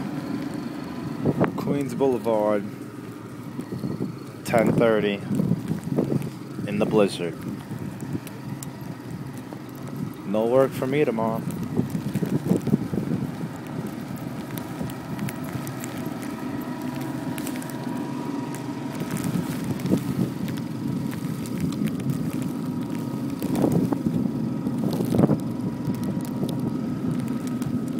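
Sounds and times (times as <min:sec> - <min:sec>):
street traffic rumble: 0:00.0 - 0:27.9
vehicles passing close by: 0:00.0 - 0:27.9
wind buffeting microphone: 0:01.0 - 0:02.1, 0:03.2 - 0:18.0, 0:18.7 - 0:27.9.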